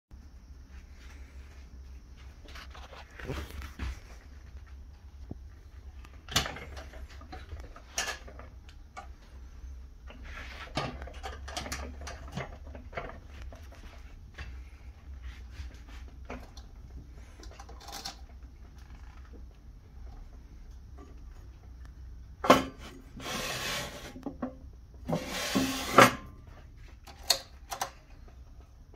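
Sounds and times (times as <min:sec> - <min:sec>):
low steady hum: 0:00.1 - 0:28.9.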